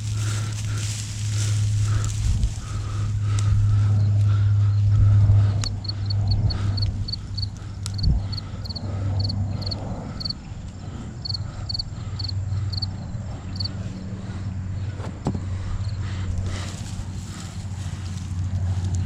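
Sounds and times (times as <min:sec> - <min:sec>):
cricket chirping: 0:00.0 - 0:18.9
steady low hum: 0:00.0 - 0:19.0.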